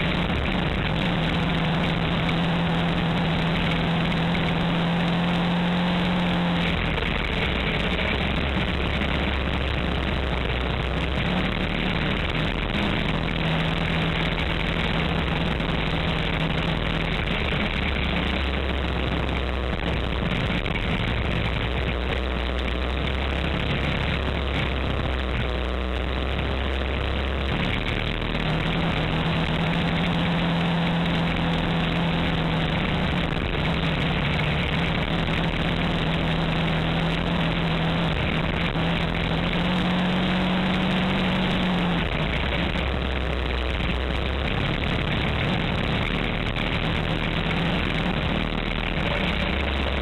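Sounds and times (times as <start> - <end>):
engine running: 0.0 - 50.0
road noise: 0.0 - 50.0.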